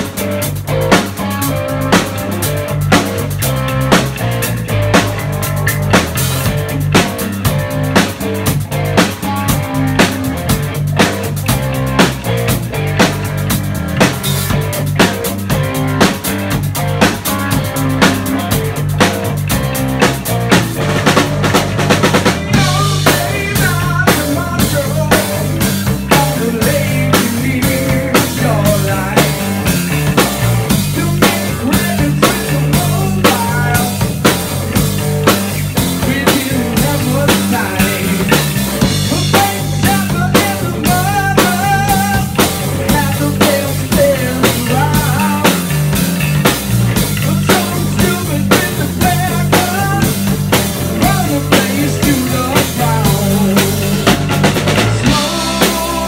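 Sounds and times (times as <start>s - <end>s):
rock band track: 0.0s - 56.0s
rock drum kit groove: 0.0s - 56.0s.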